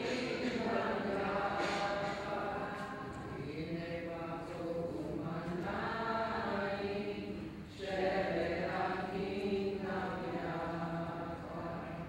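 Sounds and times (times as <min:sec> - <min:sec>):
boy chanting in sung recitation: 0:00.0 - 0:12.0.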